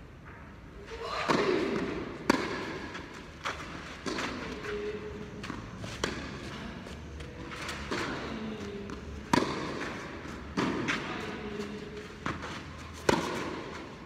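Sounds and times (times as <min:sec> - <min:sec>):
tennis balls struck by racquets: 0:01.2 - 0:14.0.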